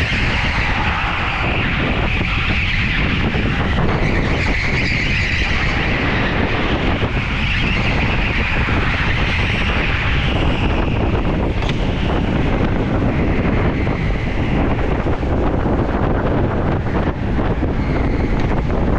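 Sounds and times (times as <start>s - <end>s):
go-kart driving: 0.0s - 18.9s
wind on microphone: 0.0s - 18.9s.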